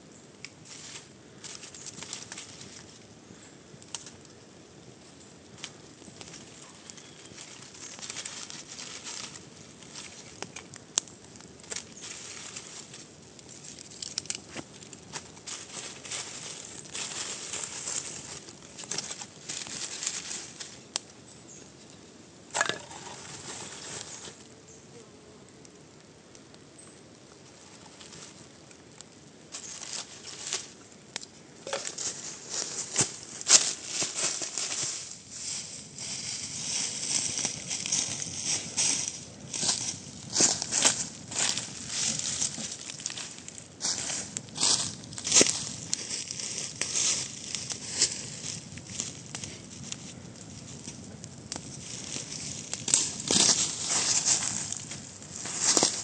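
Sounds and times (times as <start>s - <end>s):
faint outdoor background: 0.0s - 56.0s
rustling and crackling: 0.4s - 25.1s, 27.2s - 56.0s.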